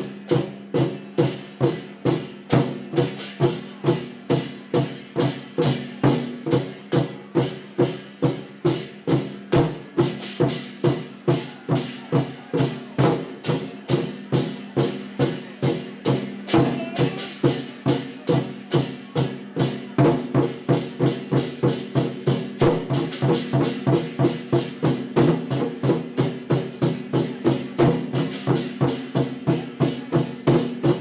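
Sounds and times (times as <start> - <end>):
war drums beating steadily: 0.0 - 31.0.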